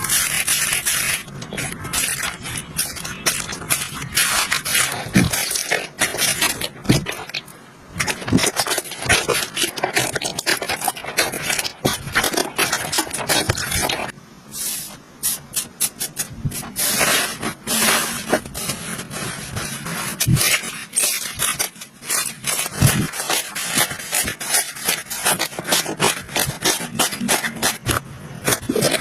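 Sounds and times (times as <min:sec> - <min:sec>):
slime crackling and popping: 0:00.0 - 0:14.2, 0:17.0 - 0:29.0.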